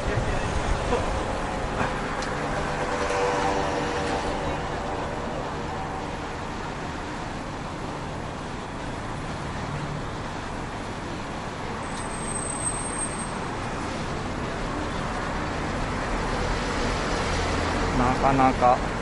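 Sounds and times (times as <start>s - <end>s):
cars running and idling: 0.0s - 19.0s.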